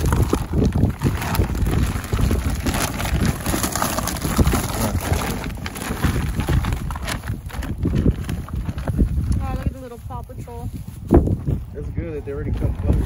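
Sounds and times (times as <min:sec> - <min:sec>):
plastic eggs clattering: 0:00.0 - 0:10.8
bags crinkling: 0:00.0 - 0:11.2
wind buffeting microphone: 0:00.0 - 0:13.0.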